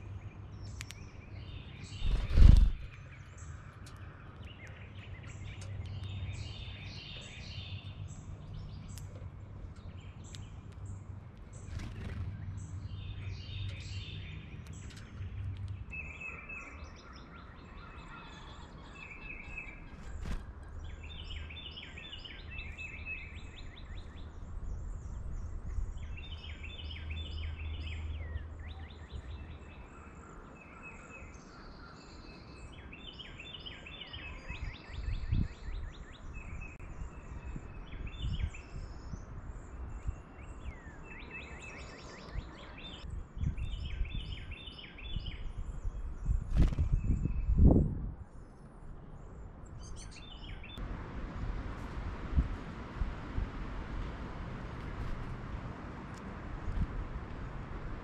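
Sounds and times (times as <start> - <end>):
songbirds singing: 0.0 - 50.9.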